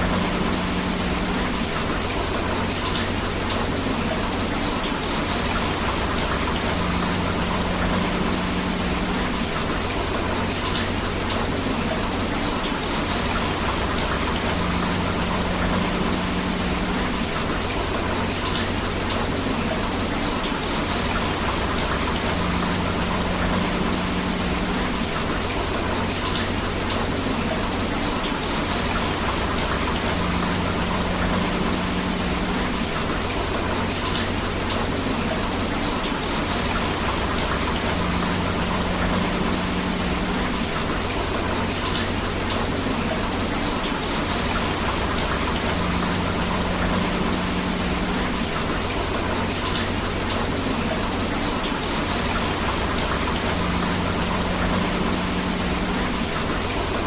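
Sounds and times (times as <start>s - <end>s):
flowing river water: 0.0s - 57.0s
steady rain: 0.0s - 57.0s.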